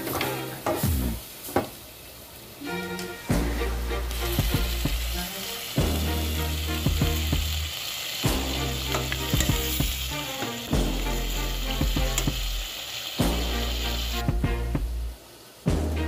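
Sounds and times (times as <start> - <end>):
meat and vegetables sizzling: 0.0 - 15.9.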